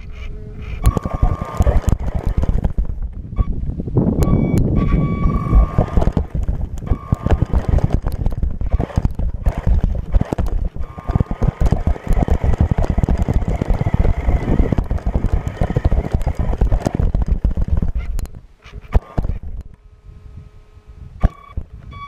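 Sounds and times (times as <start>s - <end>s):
thin motor whine: 0.0s - 22.0s
toy truck chassis rattling: 0.8s - 3.2s, 4.3s - 19.7s.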